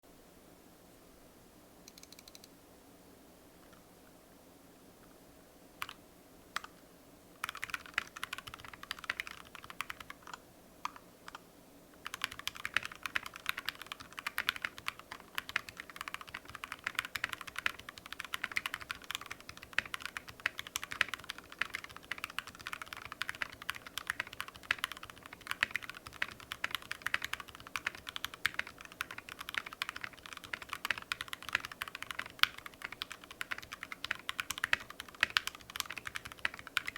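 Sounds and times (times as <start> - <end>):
mechanical keyboard typing: 1.9 - 2.5, 5.8 - 6.0, 7.4 - 11.4, 12.0 - 36.9.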